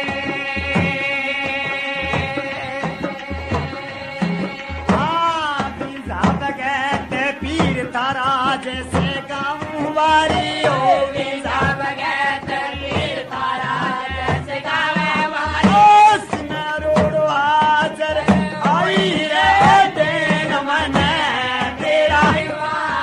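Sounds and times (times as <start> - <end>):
hand drums beating: 0.0 - 23.0
men singing devotional song: 0.0 - 23.0.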